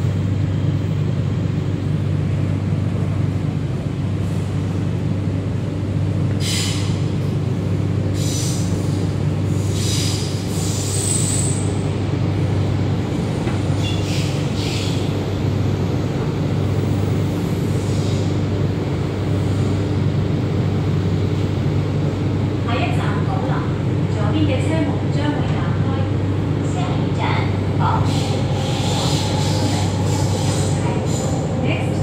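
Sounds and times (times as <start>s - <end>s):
metro train running hum: 0.0s - 32.0s.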